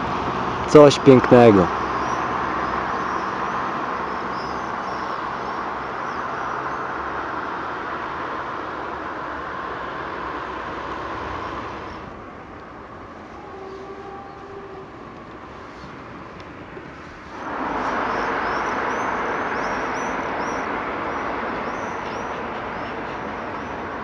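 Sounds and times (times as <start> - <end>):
road traffic rushing: 0.0 - 24.0.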